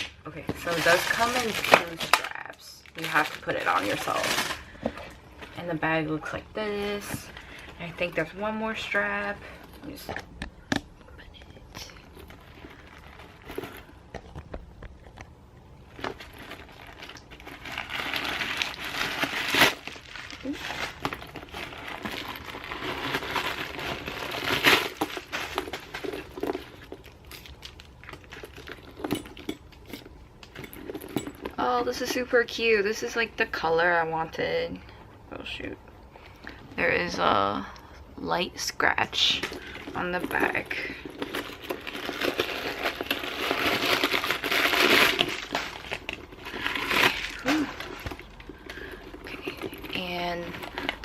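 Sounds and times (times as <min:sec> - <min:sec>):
packaging crinkling and rustling: 0:00.0 - 0:10.6, 0:11.3 - 0:32.7, 0:39.2 - 0:51.0.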